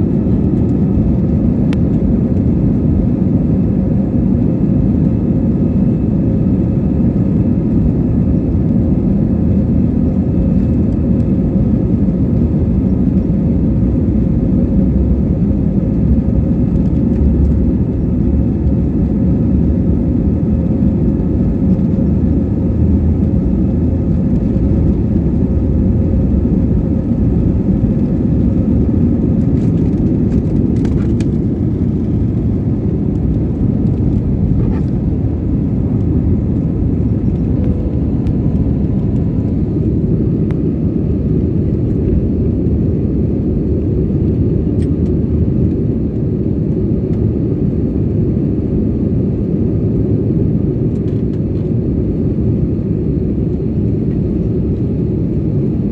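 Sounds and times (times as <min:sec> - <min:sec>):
jet engines roaring in cabin: 0:00.0 - 0:55.9.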